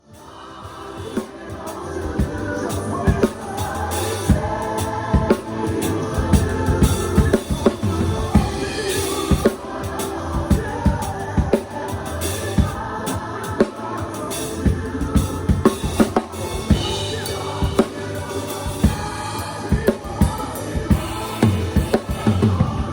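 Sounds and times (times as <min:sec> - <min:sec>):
band playing bass and chords: 0:00.0 - 0:22.9.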